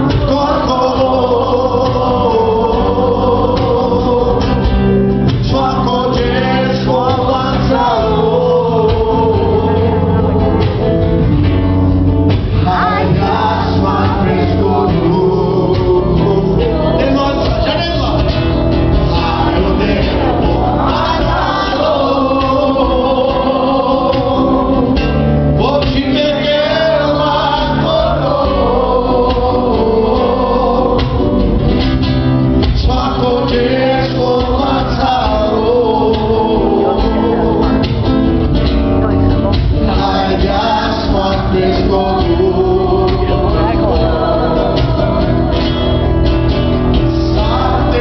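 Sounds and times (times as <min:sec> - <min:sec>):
man singing into a microphone: 0:00.0 - 0:10.9, 0:12.6 - 0:31.6, 0:32.7 - 0:38.2, 0:39.8 - 0:46.0, 0:47.0 - 0:48.0
acoustic guitar strumming: 0:00.0 - 0:48.0
backing voices and instruments: 0:00.0 - 0:48.0.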